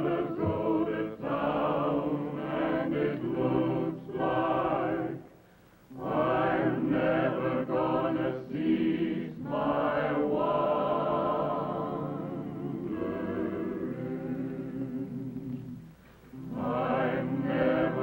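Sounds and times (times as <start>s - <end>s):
choir singing slow song: 0.0s - 18.0s.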